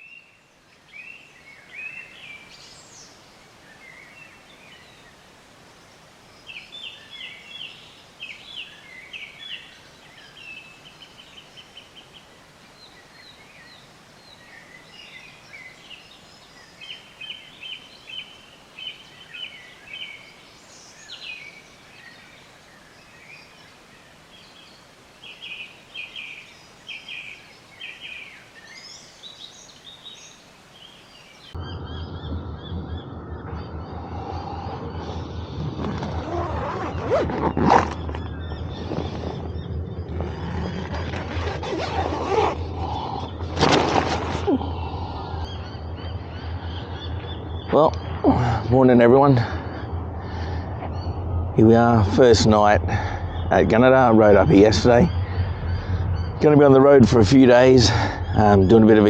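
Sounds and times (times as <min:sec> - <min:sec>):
birds chirping: 0:00.0 - 0:59.0
outdoor background noise: 0:00.0 - 0:59.0.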